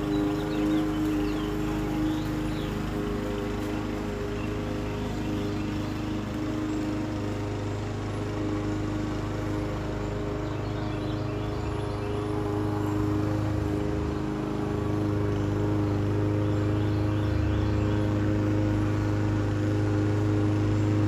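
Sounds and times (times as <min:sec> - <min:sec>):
lawn mower engine droning: 0:00.0 - 0:21.0.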